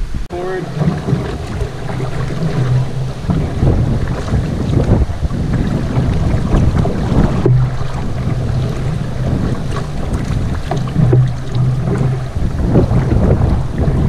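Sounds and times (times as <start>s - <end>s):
wind buffeting microphone: 0.0s - 14.0s
paddle strokes splashing: 0.3s - 14.0s
river rapid rushing: 0.3s - 14.0s.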